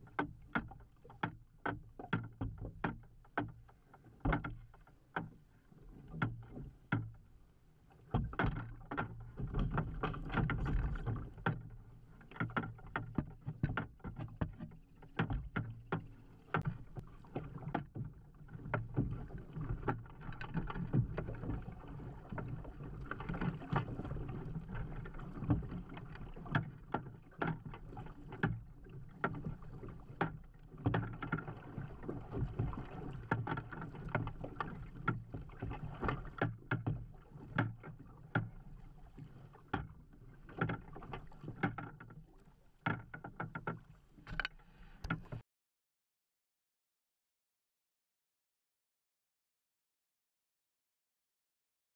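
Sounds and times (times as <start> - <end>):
low rumble of water and wind: 0.0 - 45.4
waves slapping against plastic hull: 0.0 - 45.4.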